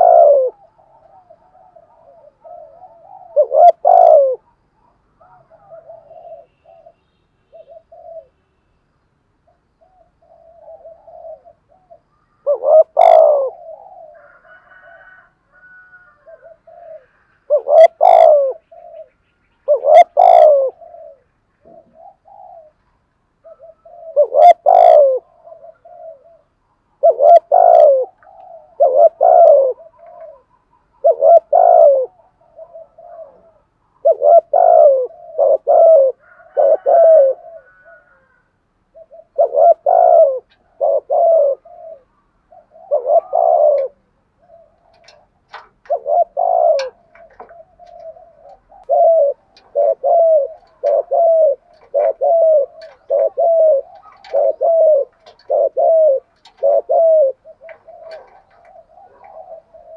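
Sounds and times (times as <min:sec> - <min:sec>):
dove cooing: 0:00.0 - 0:08.4, 0:09.5 - 0:59.9.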